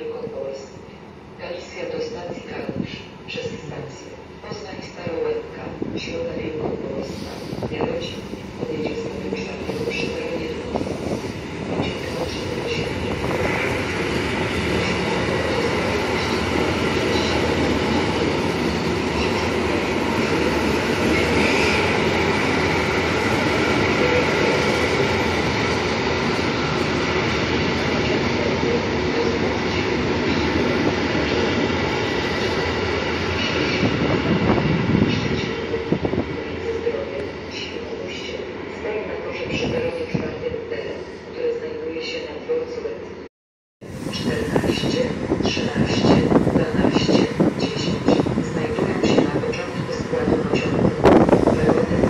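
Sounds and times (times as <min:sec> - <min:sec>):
train wheels rumbling on rail: 0:01.6 - 0:40.5, 0:43.8 - 0:52.0.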